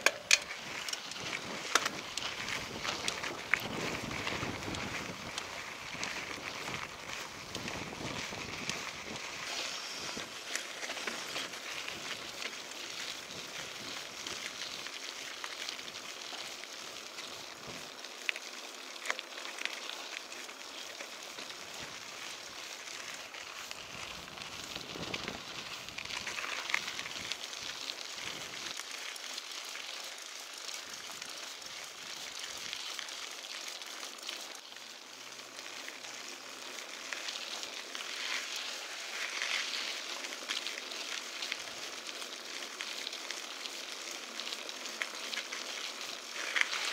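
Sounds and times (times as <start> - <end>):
bike tyres rolling on gravel: 0.0 - 46.9.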